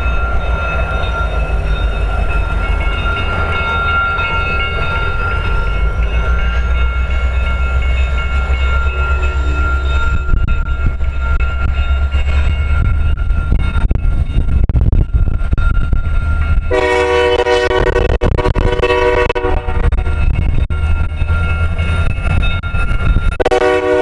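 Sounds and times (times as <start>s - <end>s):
diesel locomotive rumble: 0.0s - 24.0s.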